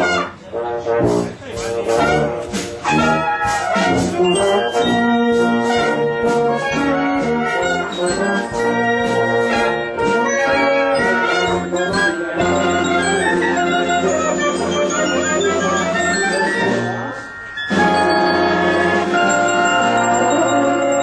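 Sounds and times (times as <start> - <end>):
brass band playing: 0.0 - 21.0.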